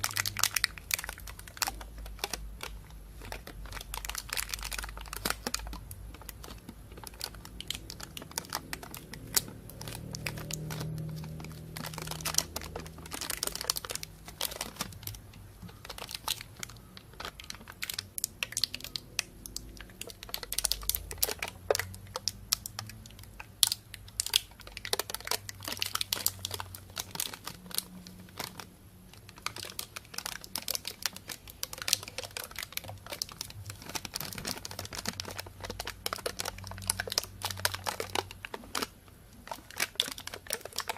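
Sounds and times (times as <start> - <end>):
plastic bag crinkling: 0.0 - 40.9.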